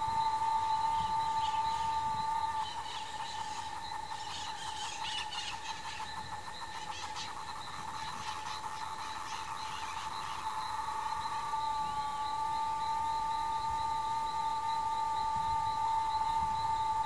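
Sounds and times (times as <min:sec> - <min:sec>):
faint high chirps: 0:00.0 - 0:17.0
insect buzzing drone: 0:00.0 - 0:17.0.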